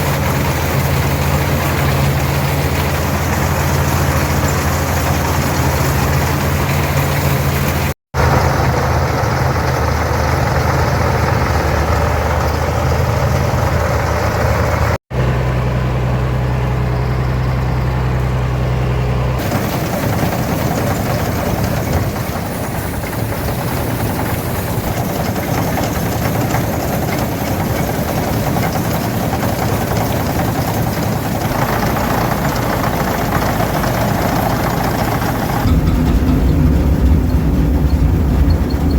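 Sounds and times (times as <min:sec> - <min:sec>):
combine machinery running: 0:00.0 - 0:38.9
tractor engine running: 0:00.0 - 0:38.9.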